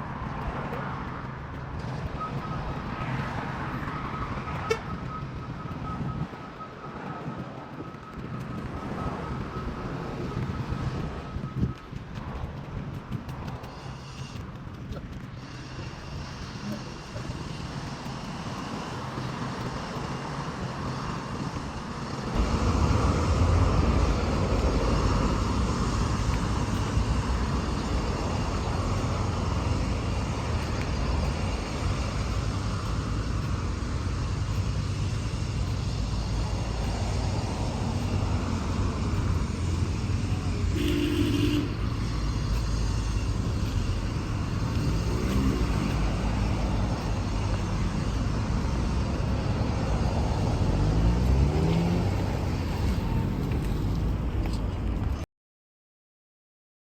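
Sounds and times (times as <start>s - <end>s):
rumble of passing cars: 0.0s - 55.2s.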